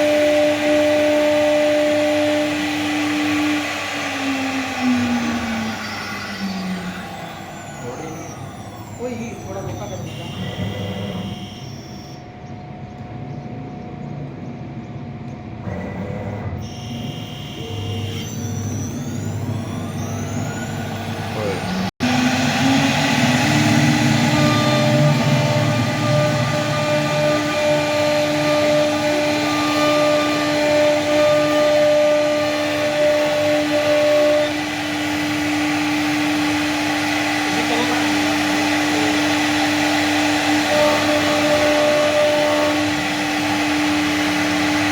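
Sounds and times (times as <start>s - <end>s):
higher machine whine: 0.0s - 44.9s
machine whine: 0.0s - 44.9s.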